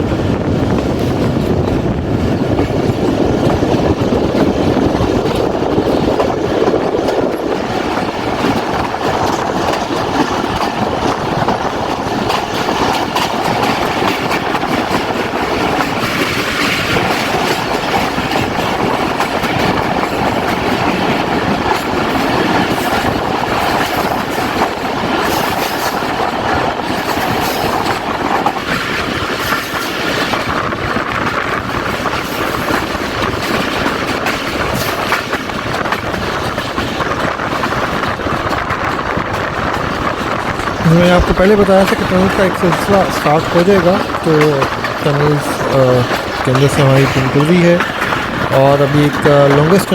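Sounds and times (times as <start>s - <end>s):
train wheels clattering over rails: 0.0s - 49.9s.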